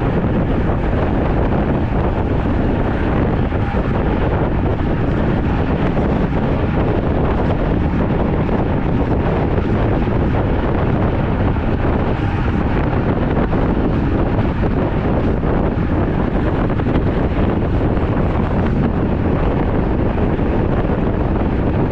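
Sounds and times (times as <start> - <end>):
wind rushing over microphone: 0.0 - 21.9.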